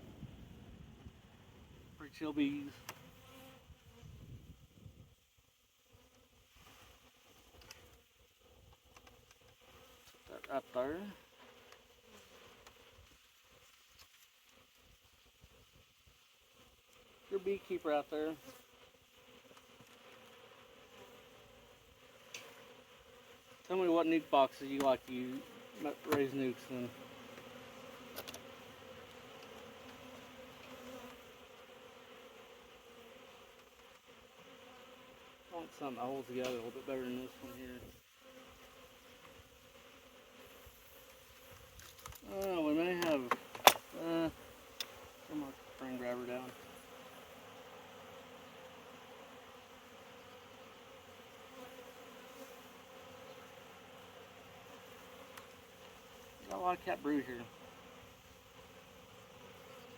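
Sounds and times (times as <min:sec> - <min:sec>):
honeybees buzzing: 0:02.1 - 0:04.4, 0:05.6 - 0:59.9.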